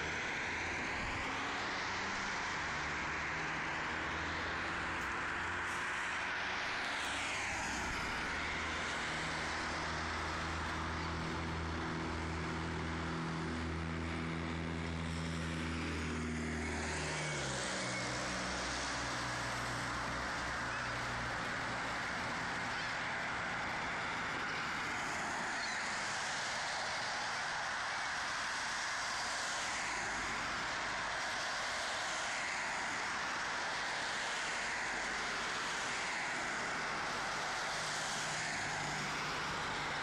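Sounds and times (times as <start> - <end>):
street traffic noise: 0.0 - 40.0.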